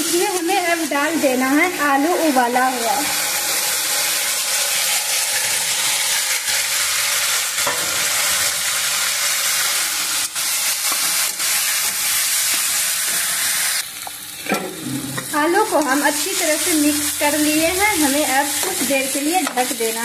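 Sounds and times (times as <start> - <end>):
oil sizzling in a pan: 0.0 - 20.0.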